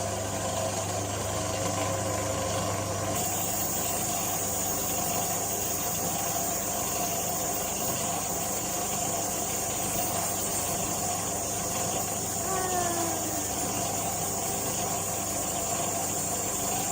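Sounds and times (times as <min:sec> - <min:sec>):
air compressor engine running: 0:00.0 - 0:16.9.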